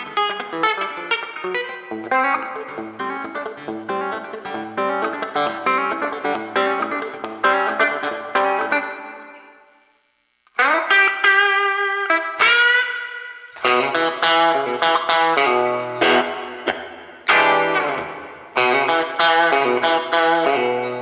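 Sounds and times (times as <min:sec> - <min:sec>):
electric guitar playing blues licks: 0:00.0 - 0:09.6, 0:10.5 - 0:21.0.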